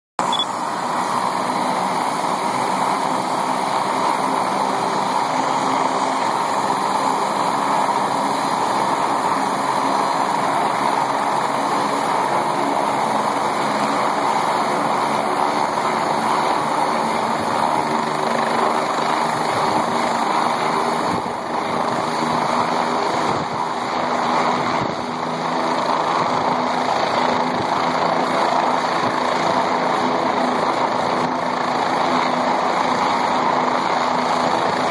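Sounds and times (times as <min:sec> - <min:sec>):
helicopter turbine and rotors: 0:00.2 - 0:34.9.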